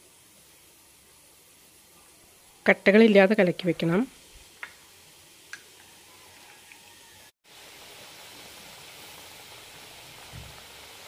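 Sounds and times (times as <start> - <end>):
water boiling with bubbling hiss: 0.0 - 11.0.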